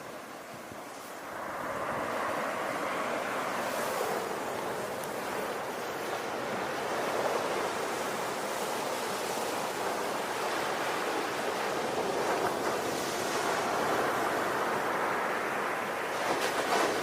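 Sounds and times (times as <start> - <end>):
ocean waves washing onto shore: 0.0 - 17.0.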